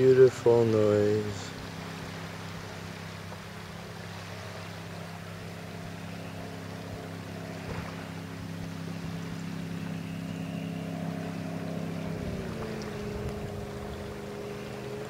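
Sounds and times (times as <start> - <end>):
powerboat engine droning: 0.0 - 15.0.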